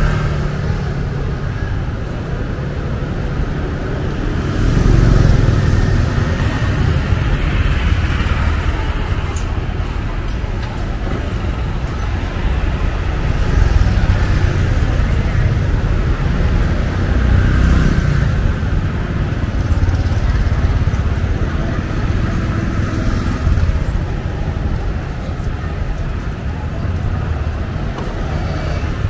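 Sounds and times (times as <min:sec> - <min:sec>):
cars passing: 0:00.0 - 0:29.0
motorcycles passing: 0:00.0 - 0:29.0.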